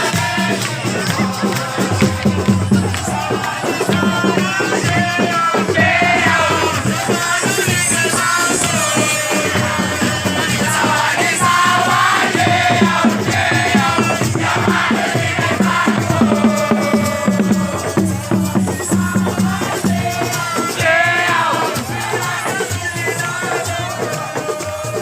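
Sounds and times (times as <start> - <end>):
crowd noise: 0.0 - 25.0
fast drumming: 0.0 - 25.0
shakers: 0.0 - 25.0
voices singing: 0.0 - 25.0.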